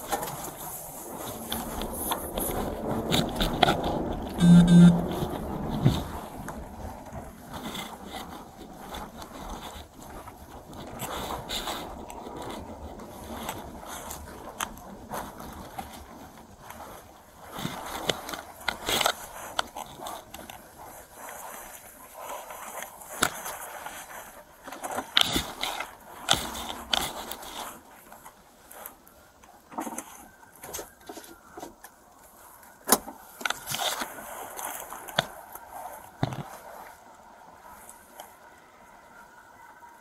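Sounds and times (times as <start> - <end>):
clothing rustling against camera: 0.0 - 39.7
steady background noise: 0.0 - 40.0.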